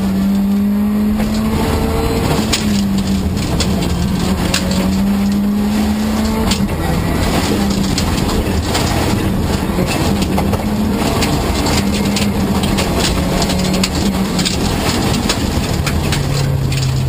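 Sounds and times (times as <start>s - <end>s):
car engine revving: 0.0s - 17.0s
gravel clattering against underbody: 0.2s - 17.0s.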